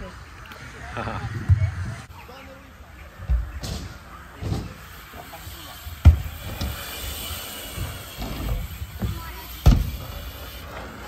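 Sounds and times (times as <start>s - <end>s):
bike tyres rolling on concrete: 0.0s - 11.0s.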